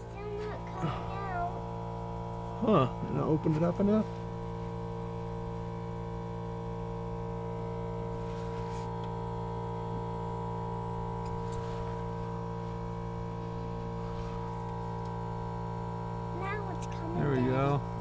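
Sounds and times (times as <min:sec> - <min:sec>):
steady hum of constant tones: 0:00.0 - 0:18.0.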